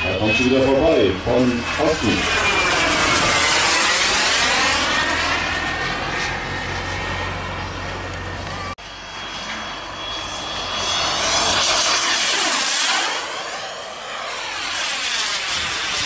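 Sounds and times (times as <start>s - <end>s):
model jet turbine whine: 0.0s - 16.0s.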